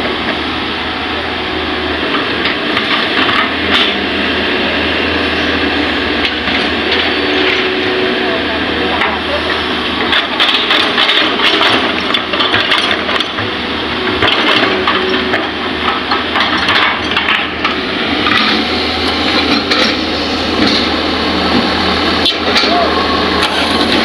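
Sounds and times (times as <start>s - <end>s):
excavator running: 0.0s - 24.0s.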